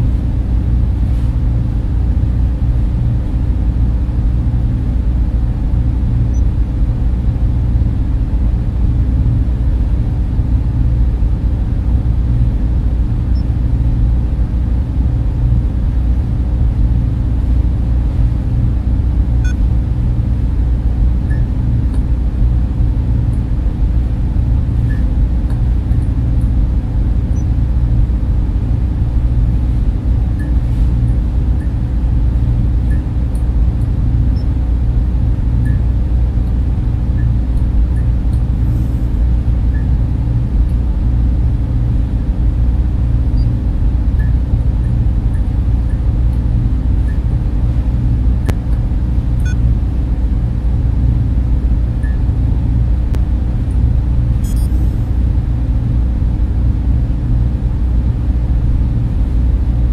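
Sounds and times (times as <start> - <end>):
server and cooling fans droning: 0.0 - 59.9.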